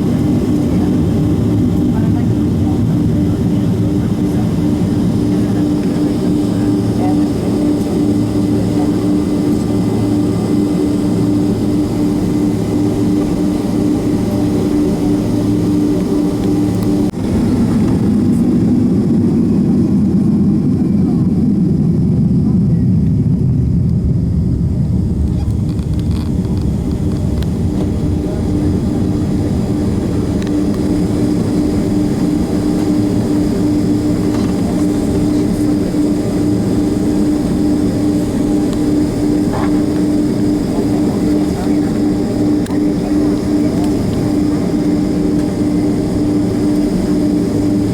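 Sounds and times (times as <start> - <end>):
constant engine hum: 0.0 - 47.9
jet engine rush in cabin: 0.0 - 47.9.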